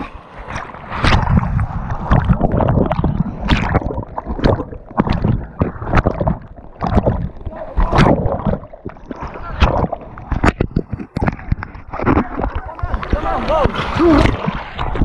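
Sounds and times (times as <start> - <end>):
whitewater splashing and gurgling: 0.0 - 15.0.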